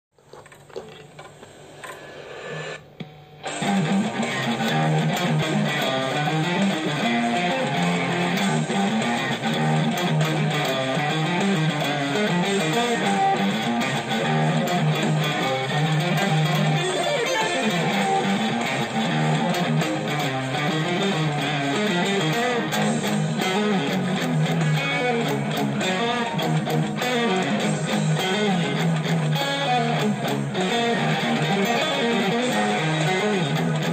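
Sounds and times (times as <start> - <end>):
electric guitar rock riff: 1.8 - 33.9.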